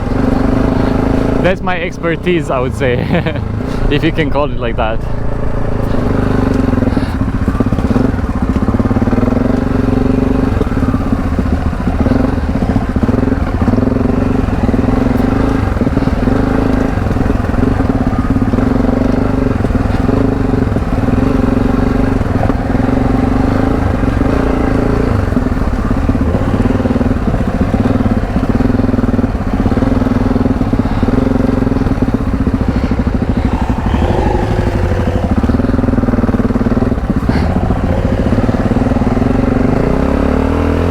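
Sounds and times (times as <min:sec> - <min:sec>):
motorcycle engine under throttle: 0:00.0 - 0:40.9.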